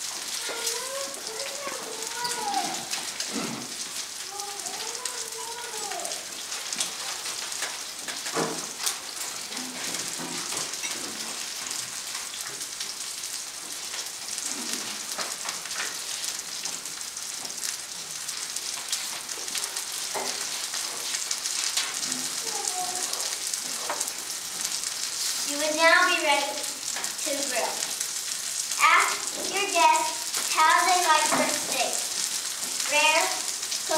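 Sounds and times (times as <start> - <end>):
steak sizzling in a skillet: 0.0 - 33.9.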